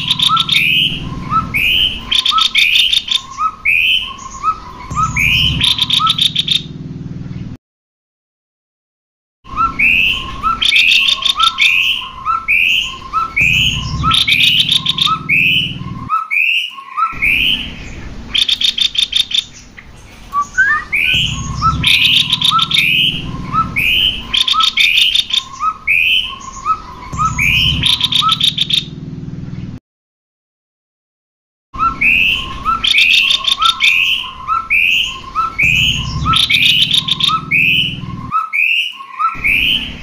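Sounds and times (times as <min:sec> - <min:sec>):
bird whistled notes: 0:00.0 - 0:06.7, 0:09.5 - 0:19.6, 0:20.2 - 0:28.9, 0:31.8 - 0:40.0.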